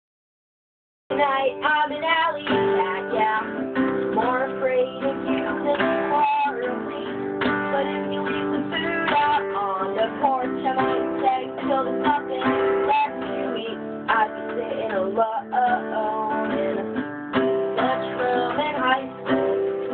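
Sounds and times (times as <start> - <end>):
acoustic guitar strumming chords: 1.1 - 19.9.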